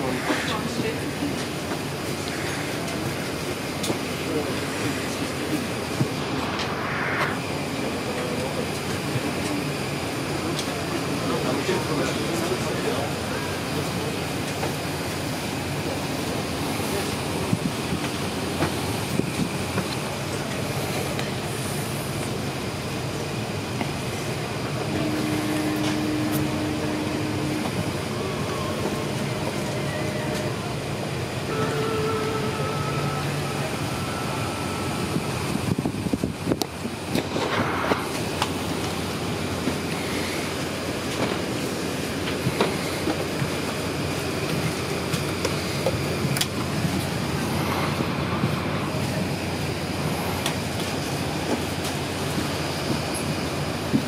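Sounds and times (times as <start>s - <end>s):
airliner cabin noise: 0.0s - 54.0s.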